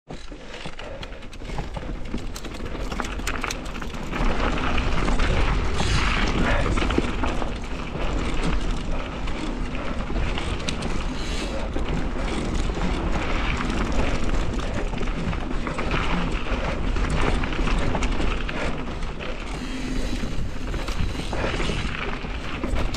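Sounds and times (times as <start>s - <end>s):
bike rattling over bumps: 0.1s - 22.9s.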